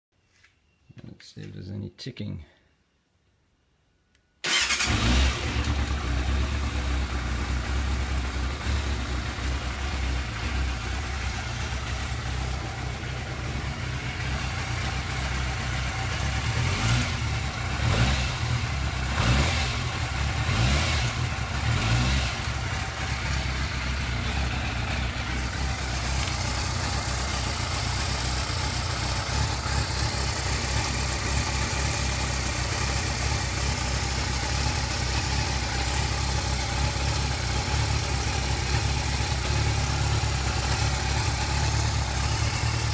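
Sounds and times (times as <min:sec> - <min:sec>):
motorcycle engine running: 0:04.5 - 0:42.9.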